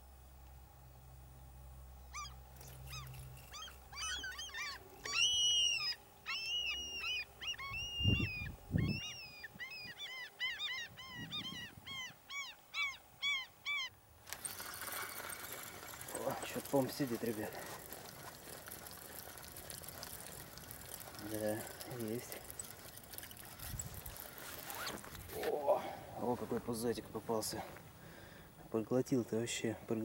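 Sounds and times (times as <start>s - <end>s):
bird calling: 2.1s - 26.8s.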